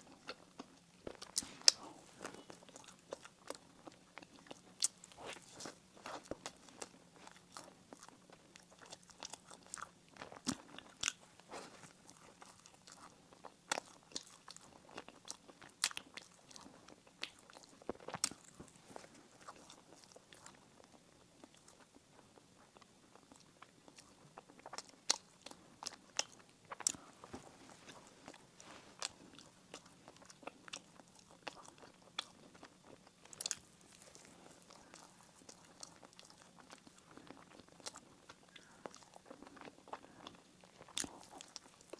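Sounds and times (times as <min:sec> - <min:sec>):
biting and chewing bread: 0:00.0 - 0:41.9.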